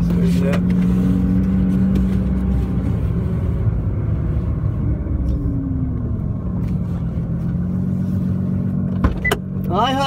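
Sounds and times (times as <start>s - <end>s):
car engine at low revs: 0.0s - 10.0s.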